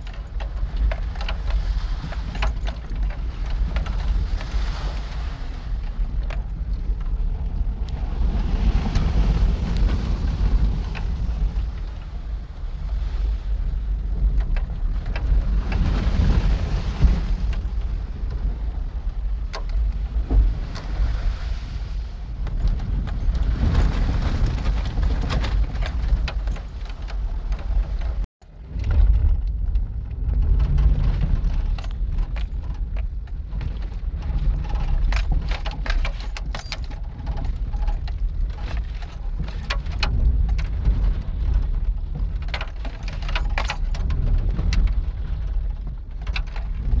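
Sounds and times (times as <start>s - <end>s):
truck engine and tyres rumbling: 0.0s - 47.0s.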